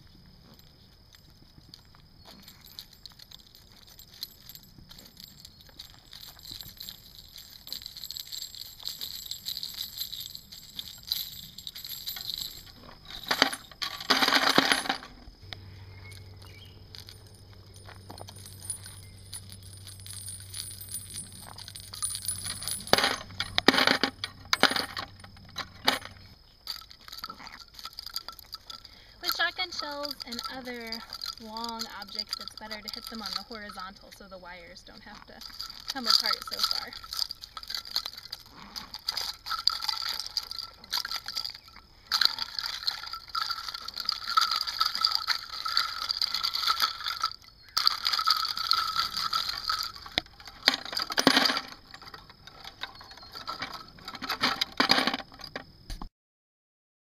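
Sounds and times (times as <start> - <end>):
roller rolling over gravel: 0.0 - 55.7
metal casings clinking: 0.0 - 55.9.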